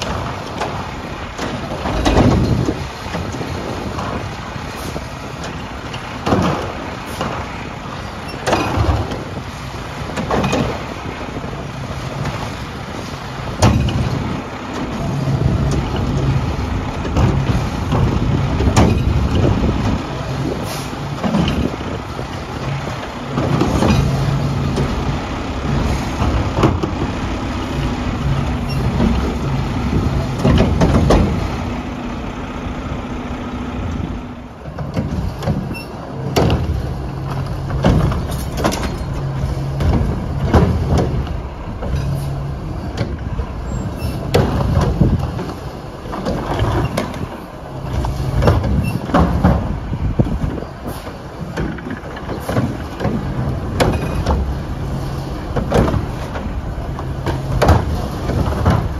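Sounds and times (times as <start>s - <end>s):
knocks and bangs of carts: 0.0s - 12.8s, 13.4s - 31.8s, 34.5s - 58.9s
garbage truck diesel engine: 0.0s - 58.9s.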